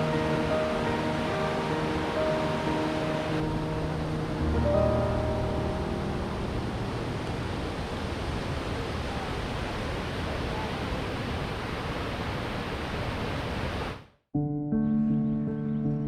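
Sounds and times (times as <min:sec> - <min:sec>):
steady rushing noise: 0:00.0 - 0:14.1.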